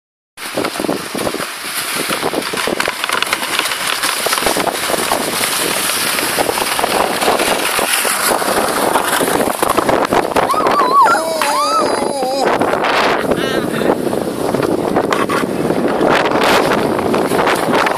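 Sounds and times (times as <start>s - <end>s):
sled runners scraping icy snow: 0.4s - 17.9s
wind rushing over microphone: 0.4s - 17.9s.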